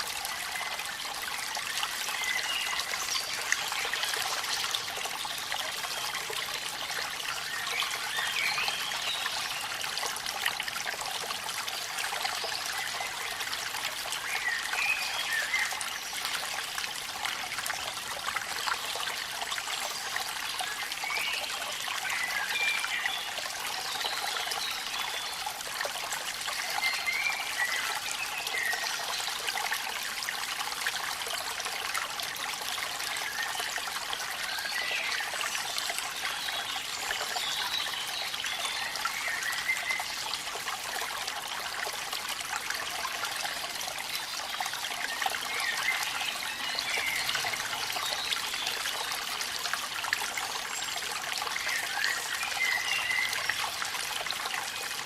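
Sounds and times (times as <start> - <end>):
waterfall trickling and splashing: 0.0 - 55.0.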